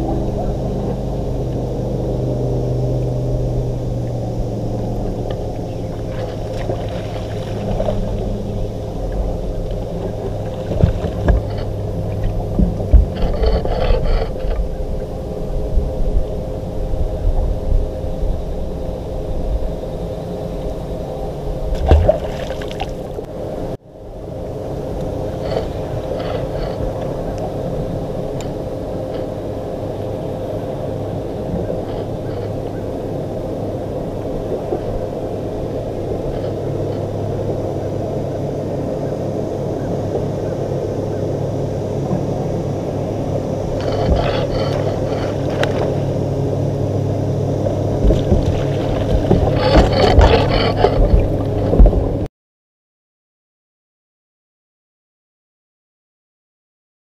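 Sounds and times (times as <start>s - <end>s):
electric trolling motor hum: 0.0s - 52.3s.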